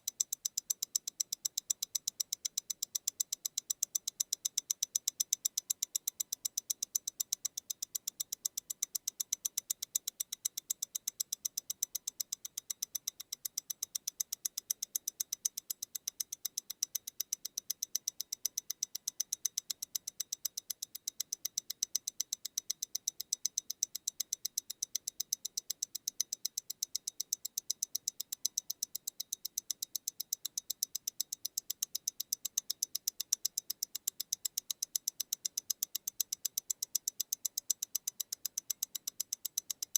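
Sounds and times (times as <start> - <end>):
wristwatch ticking: 0.0 - 39.9.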